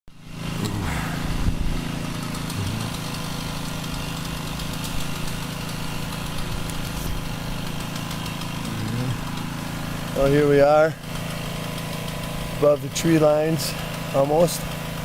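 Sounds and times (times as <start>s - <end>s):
small engine idling: 0.1s - 15.0s.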